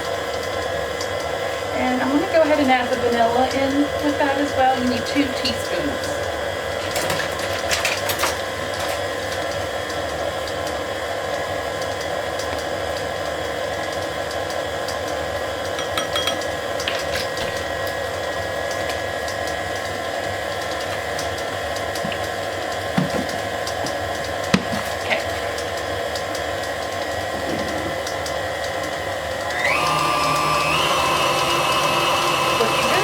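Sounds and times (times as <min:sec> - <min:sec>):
stand mixer motor whirring: 0:00.0 - 0:33.0.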